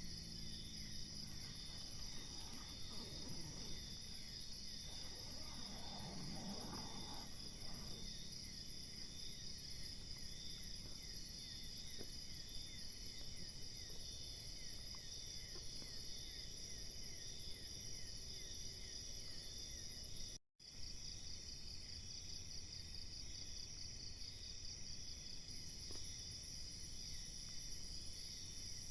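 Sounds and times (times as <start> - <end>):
crickets trilling: 0.0 - 28.9.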